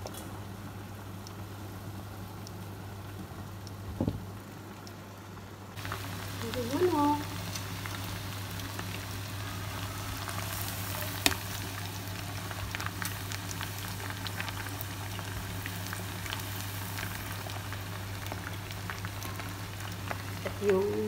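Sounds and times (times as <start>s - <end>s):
chicken frying in hot oil: 0.0s - 21.0s.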